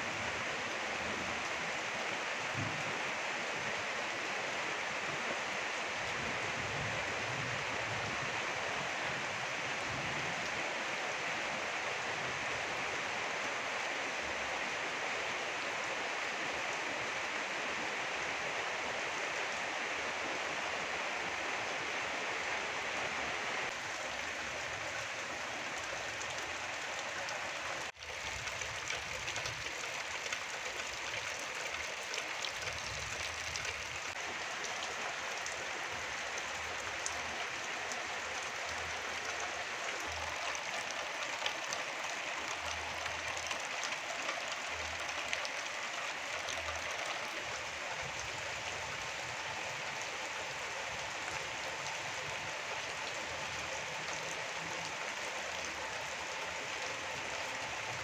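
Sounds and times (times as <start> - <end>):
rain falling on plants: 0.0 - 58.0.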